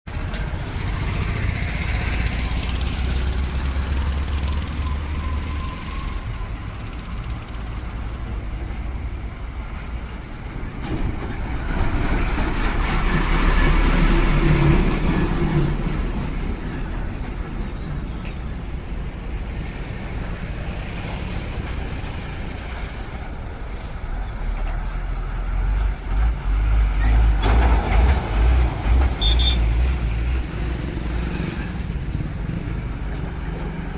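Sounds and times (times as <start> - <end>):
heavy vehicles passing: 0.1 - 33.9.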